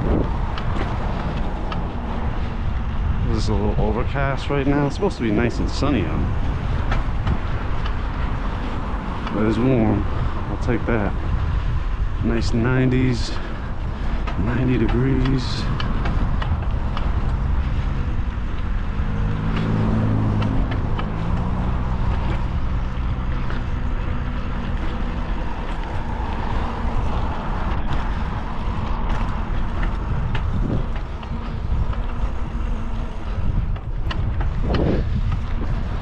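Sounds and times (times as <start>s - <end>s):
motor vehicle engine hum: 0.0s - 36.0s
wind rushing over microphone: 0.0s - 36.0s.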